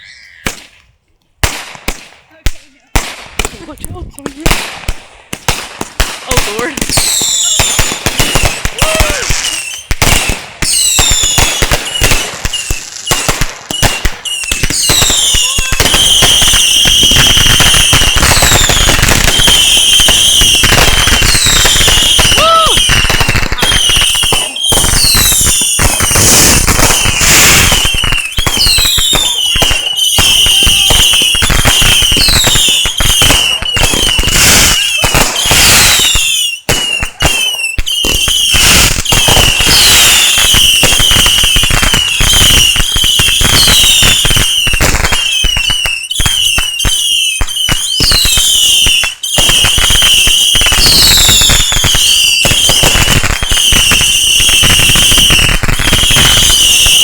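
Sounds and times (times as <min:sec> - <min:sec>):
fireworks crackling: 0:00.0 - 0:57.0
fireworks whistling: 0:00.0 - 0:57.0.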